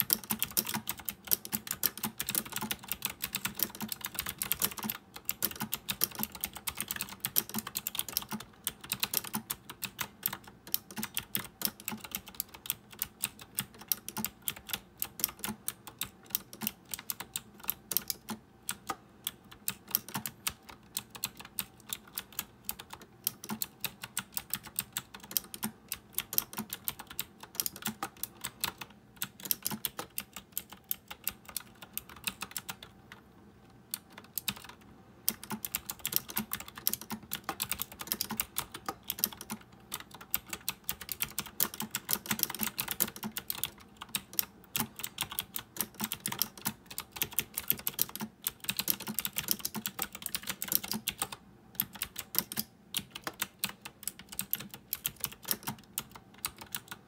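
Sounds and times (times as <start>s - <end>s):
clicky mechanical keyboard typing: 0.0s - 57.0s.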